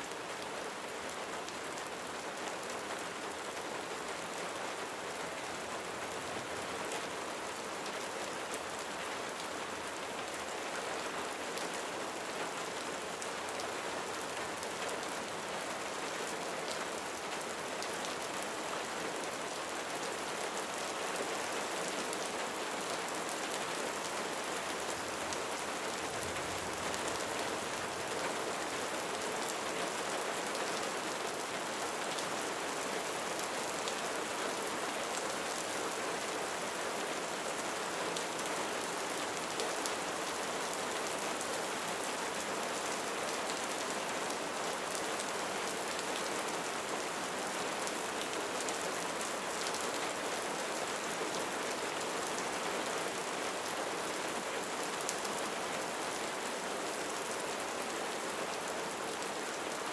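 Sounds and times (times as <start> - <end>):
rain on a roof: 0.0 - 59.9.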